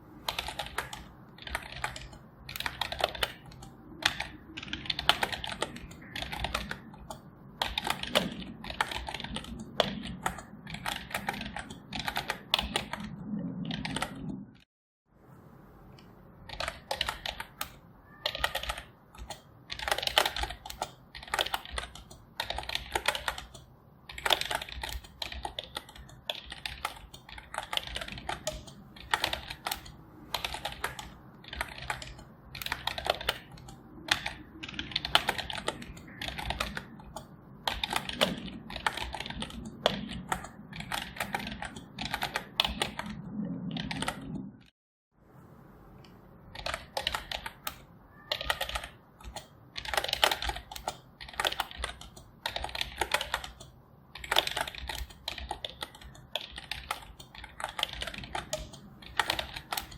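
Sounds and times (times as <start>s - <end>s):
typing on computer keyboard: 0.2s - 14.6s, 16.4s - 44.7s, 46.5s - 59.9s.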